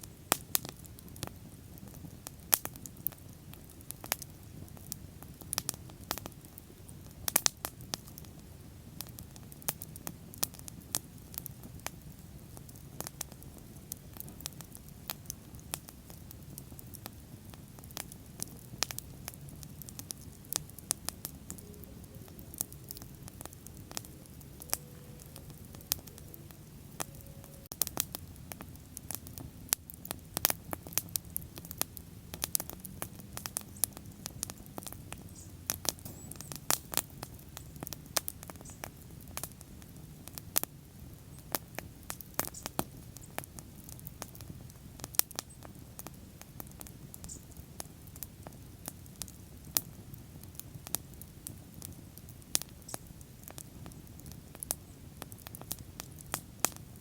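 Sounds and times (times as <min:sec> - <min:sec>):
bonfire crackling and popping: 0:00.0 - 0:57.0
low rumble of burning: 0:00.0 - 0:57.0.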